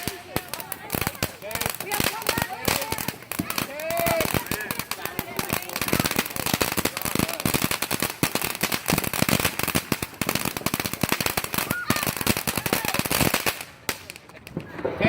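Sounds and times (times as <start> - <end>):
firecrackers popping: 0.0 - 15.0.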